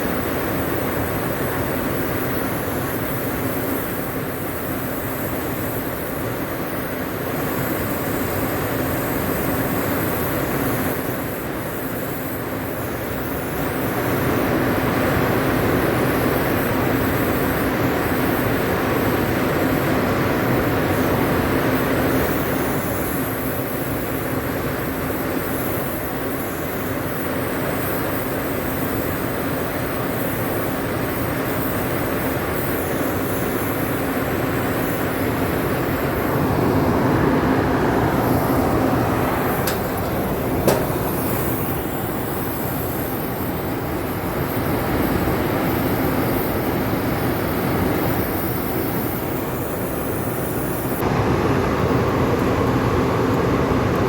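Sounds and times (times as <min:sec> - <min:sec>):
mechanical running hum: 0:00.0 - 0:54.0.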